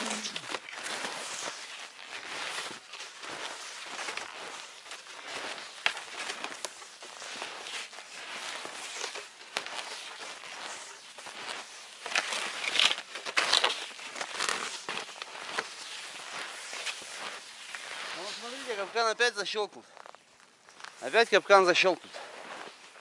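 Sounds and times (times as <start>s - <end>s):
footsteps crunching through snow: 0.0s - 23.0s.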